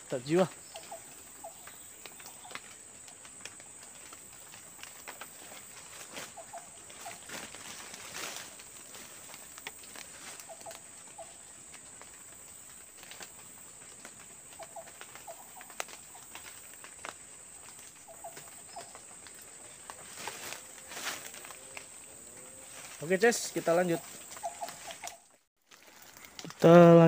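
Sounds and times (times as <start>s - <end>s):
high insect drone: 0.0s - 25.3s.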